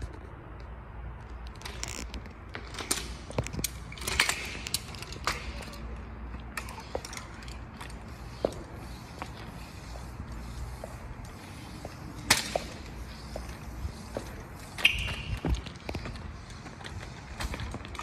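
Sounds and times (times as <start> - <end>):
scooter parts clicking and rattling: 0.0 - 18.0.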